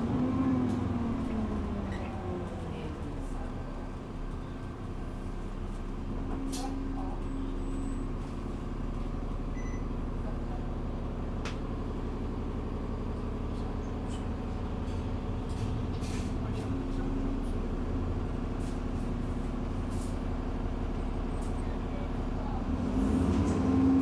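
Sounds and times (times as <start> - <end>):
bus engine droning: 0.0 - 24.0.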